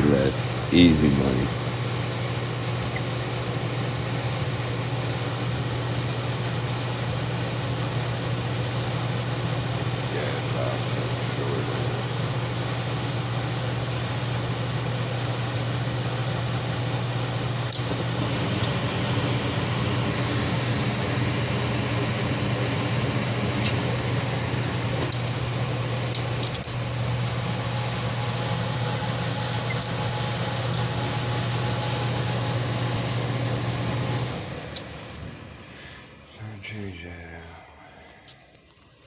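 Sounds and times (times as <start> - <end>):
furnace blower humming: 0.0 - 38.7.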